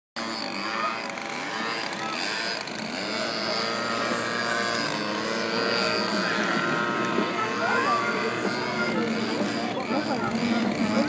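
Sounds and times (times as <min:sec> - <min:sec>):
model plane motor droning: 0:00.2 - 0:11.0.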